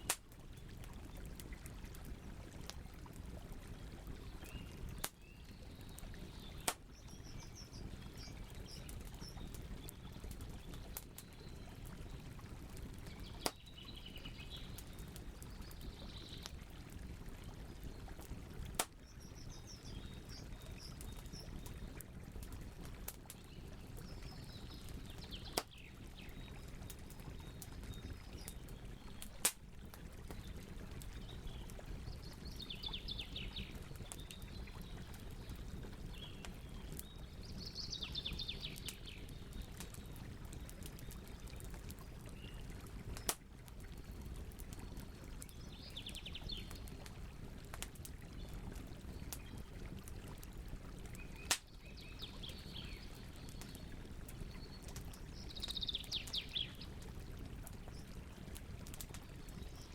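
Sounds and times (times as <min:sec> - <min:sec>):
campfire burning with pops: 0:00.0 - 0:59.9.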